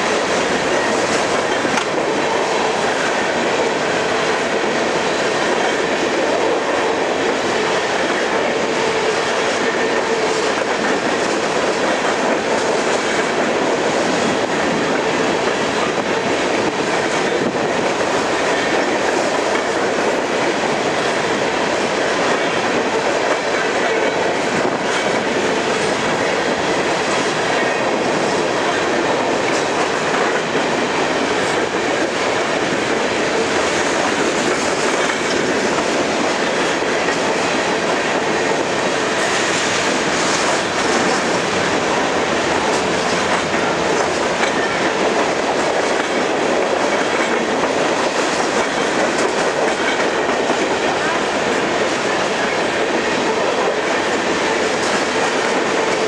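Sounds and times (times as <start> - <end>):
freight train wheels rumbling: 0.0 - 56.0
wheels clacking over rail joints: 0.0 - 56.0.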